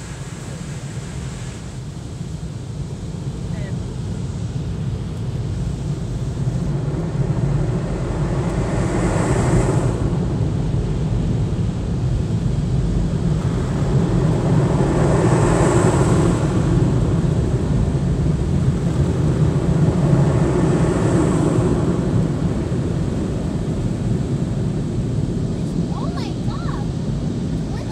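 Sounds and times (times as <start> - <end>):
car wash blower dryers: 0.0 - 27.9.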